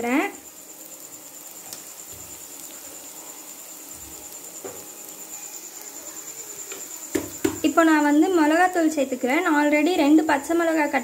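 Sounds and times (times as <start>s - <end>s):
cricket trill: 0.0s - 11.0s
masala sizzling in oil: 0.0s - 11.0s.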